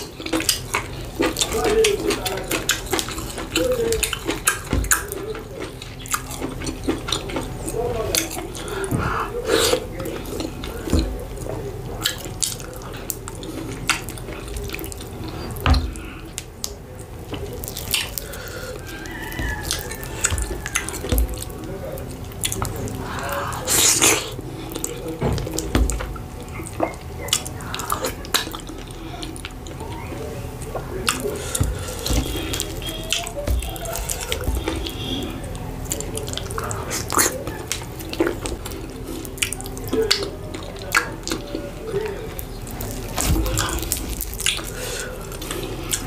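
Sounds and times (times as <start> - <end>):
wet mouth and finger eating sounds: 0.0 - 46.0.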